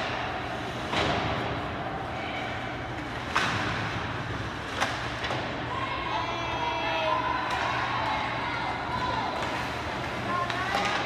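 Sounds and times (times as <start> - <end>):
arena noise: 0.0 - 11.0.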